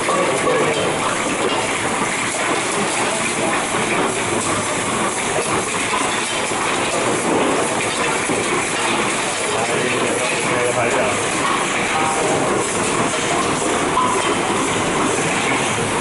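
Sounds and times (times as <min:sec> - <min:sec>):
bottles clattering on conveyor: 0:00.0 - 0:16.0.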